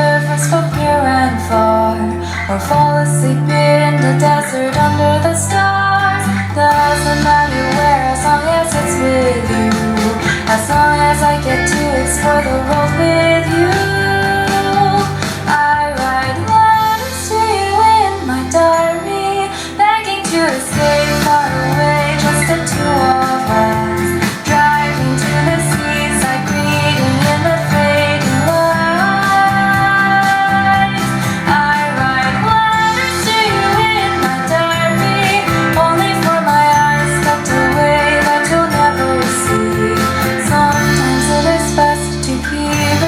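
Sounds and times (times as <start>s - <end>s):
pop song with female vocals: 0.0s - 43.0s.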